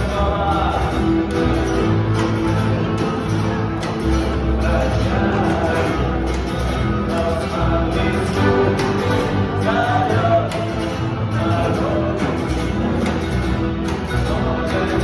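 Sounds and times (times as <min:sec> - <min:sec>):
guitar strumming: 0:00.0 - 0:15.0
person singing: 0:00.0 - 0:15.0.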